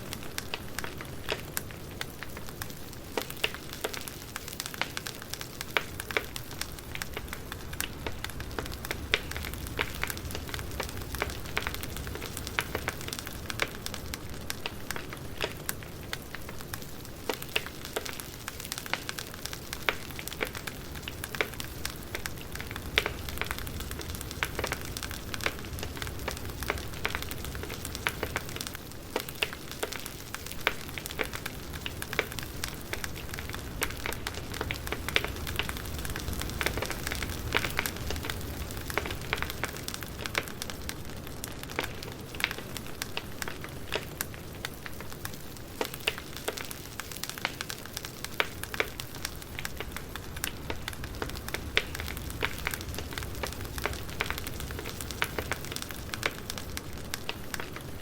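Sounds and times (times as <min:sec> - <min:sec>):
sharp pops and snaps: 0:00.0 - 0:41.0, 0:41.7 - 0:57.9
wood fire crackling: 0:00.0 - 0:58.0.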